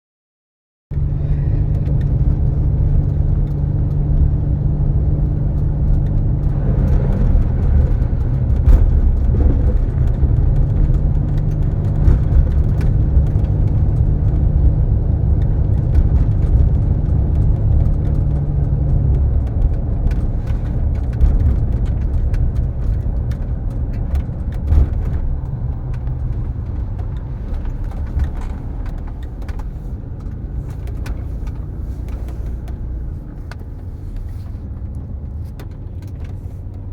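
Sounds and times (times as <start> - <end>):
car engine rumble: 0.9 - 36.9
rain tapping: 1.8 - 36.9.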